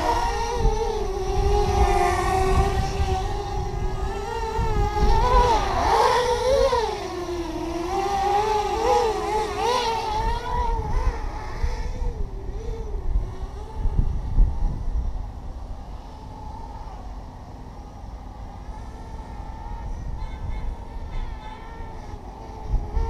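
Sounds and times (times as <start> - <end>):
quadcopter propellers whining: 0.0 - 23.0.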